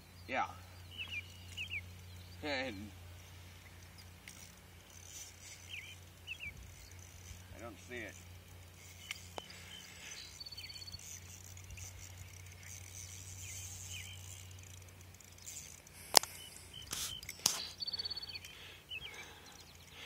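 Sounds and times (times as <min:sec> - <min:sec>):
fishing reel ticking: 0:03.5 - 0:20.0.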